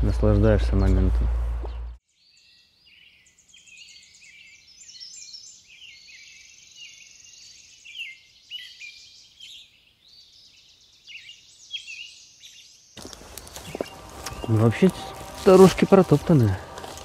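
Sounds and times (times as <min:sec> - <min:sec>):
songbirds singing: 0:00.0 - 0:17.0
bird trill: 0:01.7 - 0:15.7.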